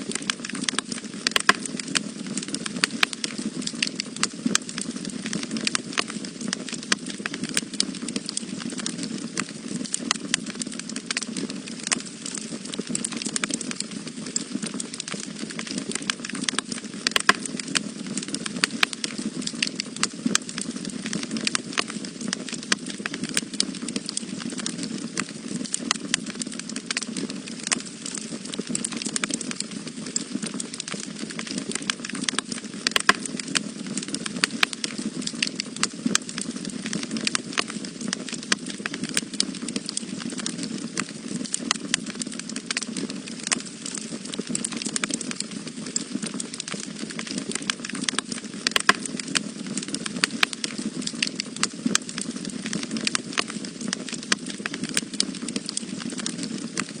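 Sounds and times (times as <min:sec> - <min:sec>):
fire crackling and popping: 0:00.0 - 0:57.0
flames rushing: 0:00.0 - 0:57.0.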